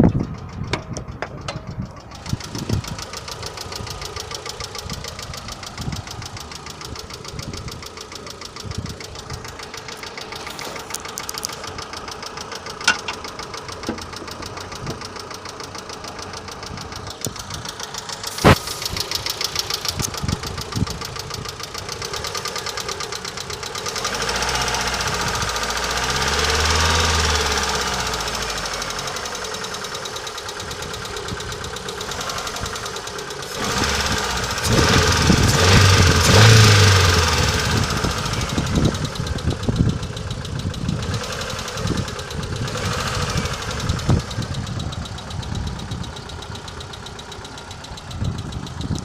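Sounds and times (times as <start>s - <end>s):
car engine running: 0.0s - 49.0s
engine lifter ticking: 0.0s - 49.0s
engine revving: 2.1s - 49.0s.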